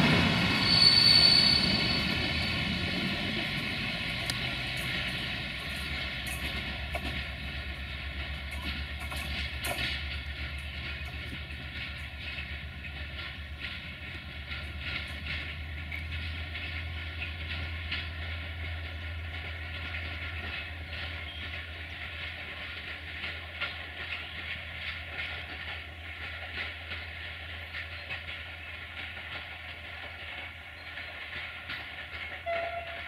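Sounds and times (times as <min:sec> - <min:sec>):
train wheels clicking over rail joints: 0:00.0 - 0:33.0.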